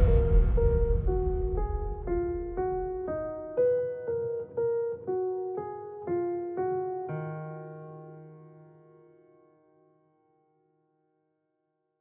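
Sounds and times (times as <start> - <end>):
piano-like keyboard melody: 0.0 - 10.0.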